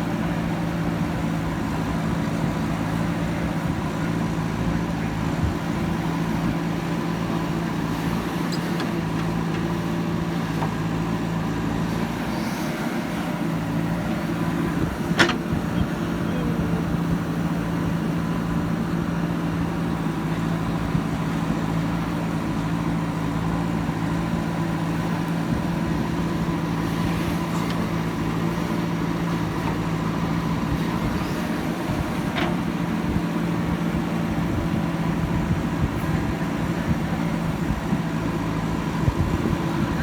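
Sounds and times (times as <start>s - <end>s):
diesel engine running steadily: 0.0s - 40.0s.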